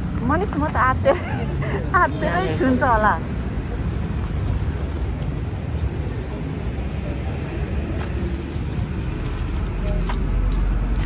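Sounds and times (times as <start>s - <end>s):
motor vehicle rumble: 0.0s - 11.0s.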